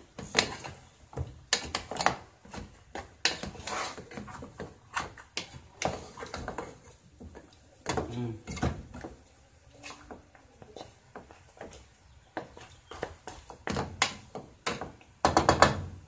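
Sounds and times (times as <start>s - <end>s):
wooden spatula scraping a pot: 0.0s - 15.6s.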